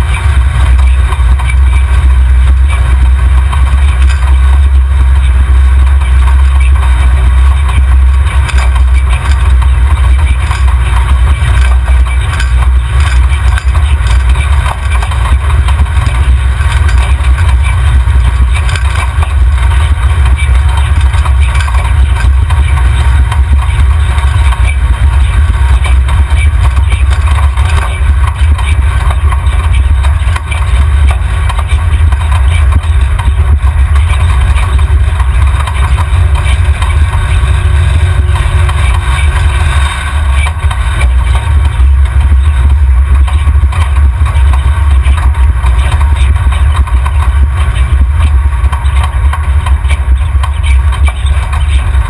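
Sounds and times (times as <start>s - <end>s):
buggy engine idling: 0.0s - 52.0s.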